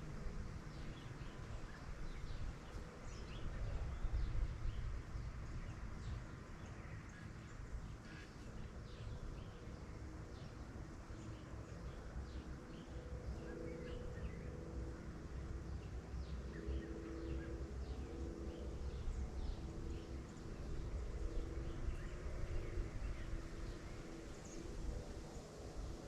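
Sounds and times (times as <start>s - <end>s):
faint droning hum: 0.0s - 26.0s
steady low rumble: 0.0s - 26.0s.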